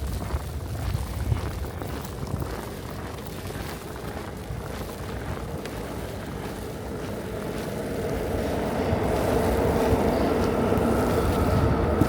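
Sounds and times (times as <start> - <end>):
low rumbling street noise: 0.0 - 12.0.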